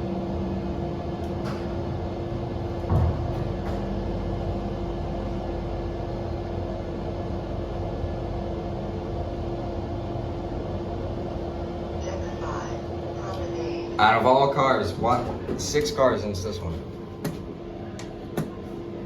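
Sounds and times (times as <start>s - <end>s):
elevator car humming: 0.0s - 19.0s.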